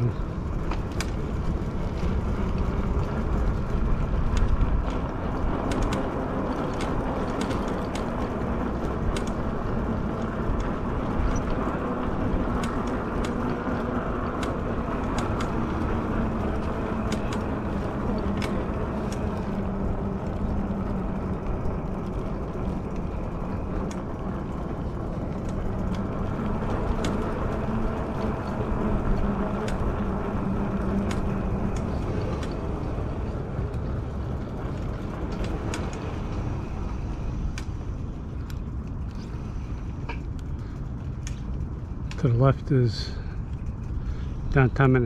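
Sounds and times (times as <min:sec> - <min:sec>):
bike rolling over bumpy bricks: 0:00.0 - 0:45.0
sharp clicks and rattles: 0:00.0 - 0:45.0.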